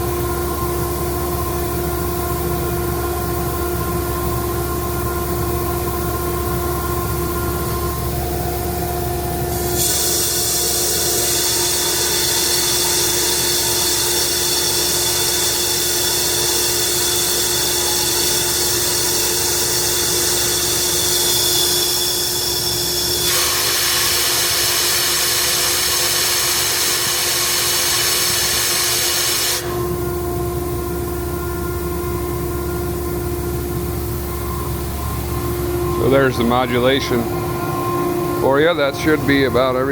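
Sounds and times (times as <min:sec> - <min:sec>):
air compressor humming: 0:00.0 - 0:16.0, 0:22.1 - 0:39.9.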